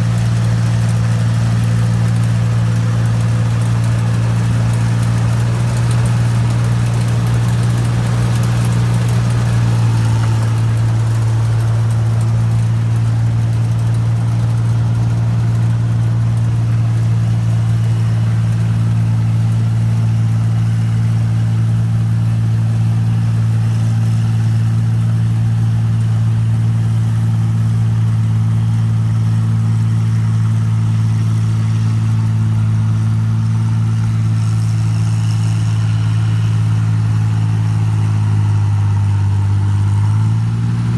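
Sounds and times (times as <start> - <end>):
combine harvester engine humming: 0.0 - 40.9.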